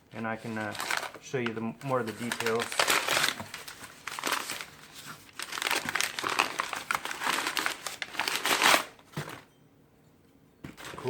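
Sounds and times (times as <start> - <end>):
wrapping crinkling: 0.1 - 9.1.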